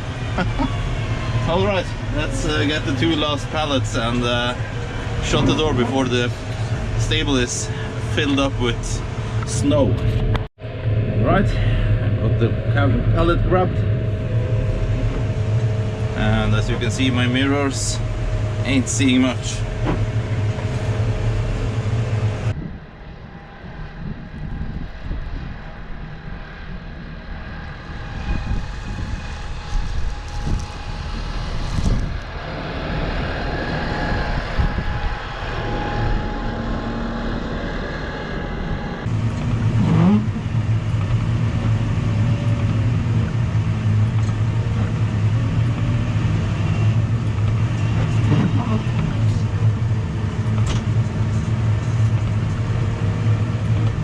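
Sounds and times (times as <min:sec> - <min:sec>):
tractor diesel engine running: 0:00.0 - 0:22.6, 0:26.5 - 0:54.0.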